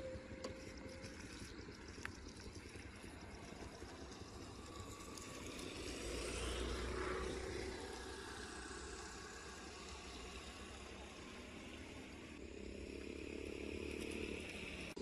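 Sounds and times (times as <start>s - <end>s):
water pump engine running: 0.0s - 12.3s.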